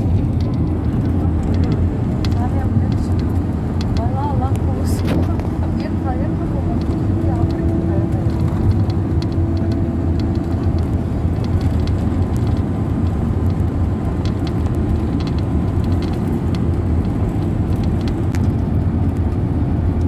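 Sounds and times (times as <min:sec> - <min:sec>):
bus engine drone: 0:00.0 - 0:20.0
road noise: 0:00.0 - 0:20.0.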